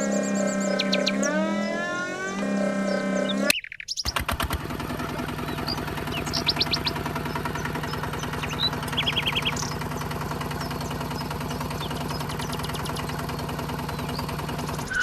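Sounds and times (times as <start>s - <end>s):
small electric motor humming: 0.0s - 3.5s, 4.4s - 15.0s
high chirps: 0.0s - 4.2s, 5.3s - 15.0s.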